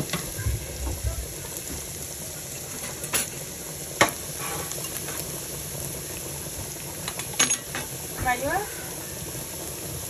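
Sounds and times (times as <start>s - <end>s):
onions sizzling in pan: 0.0s - 10.0s.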